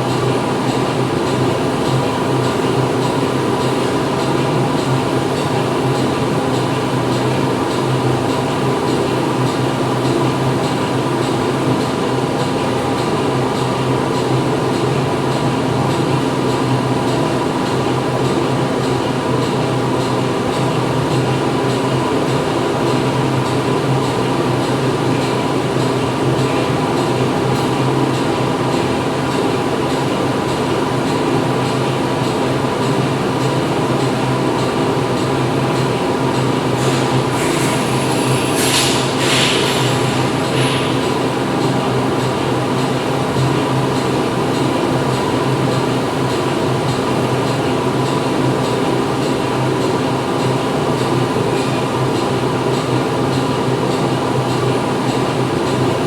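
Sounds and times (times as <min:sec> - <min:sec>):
factory machinery drone: 0:00.0 - 0:56.0.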